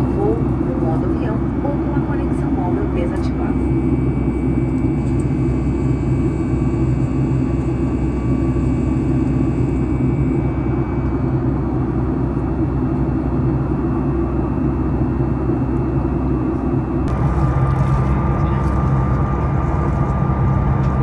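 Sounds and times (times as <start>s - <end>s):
jet cabin engine rush: 0.0s - 21.0s.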